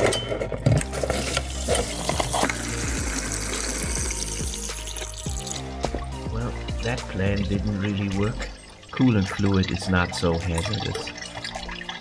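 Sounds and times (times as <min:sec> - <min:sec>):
coolant splashing into bucket: 0:00.8 - 0:06.2, 0:06.8 - 0:12.0.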